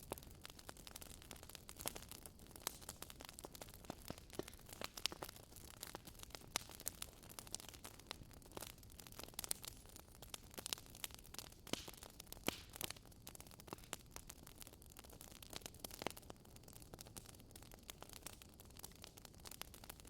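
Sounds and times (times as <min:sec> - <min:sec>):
fire crackling in fireplace: 0:00.0 - 0:20.0
soft steady hiss: 0:00.0 - 0:20.0.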